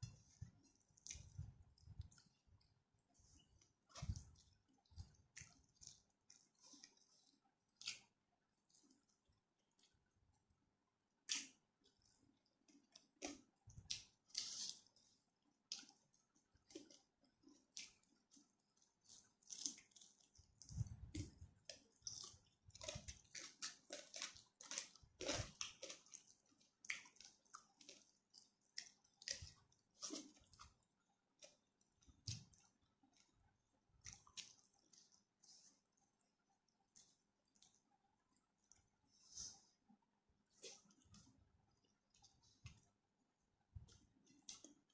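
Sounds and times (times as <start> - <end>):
person chewing food: 0.0 - 39.8, 40.4 - 43.0, 43.7 - 44.9.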